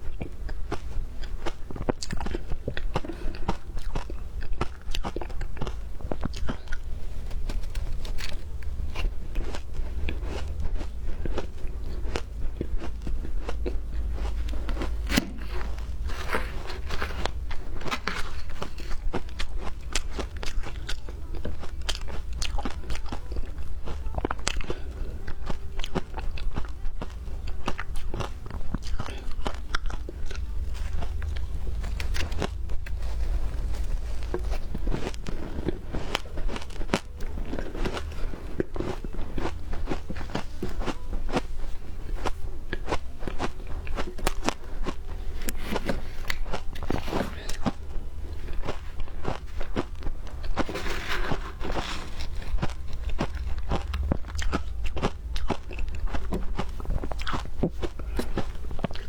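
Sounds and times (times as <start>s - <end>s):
ice being chewed crunching: 0.0s - 59.0s
steady low hum: 0.0s - 59.0s.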